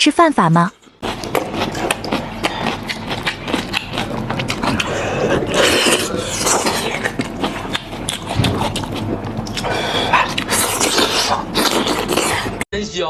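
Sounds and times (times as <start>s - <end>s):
man chewing and lip smacking: 0.8s - 12.6s.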